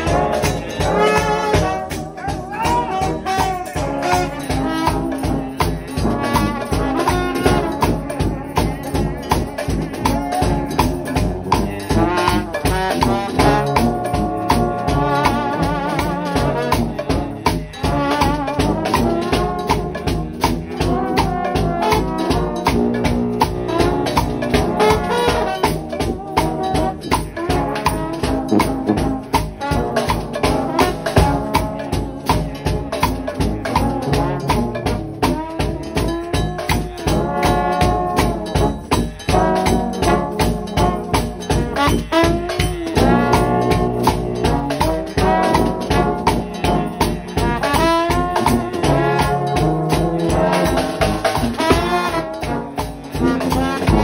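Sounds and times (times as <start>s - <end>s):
drum kit steady beat: 0.0s - 54.0s
trombones playing melody: 0.0s - 54.0s.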